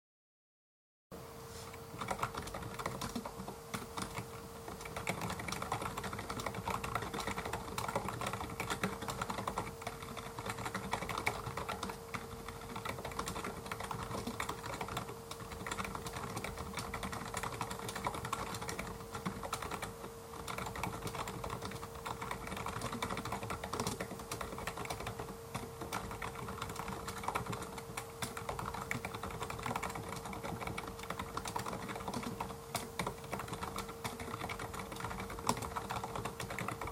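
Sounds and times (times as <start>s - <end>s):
fast clicky keyboard typing: 2.0s - 36.9s.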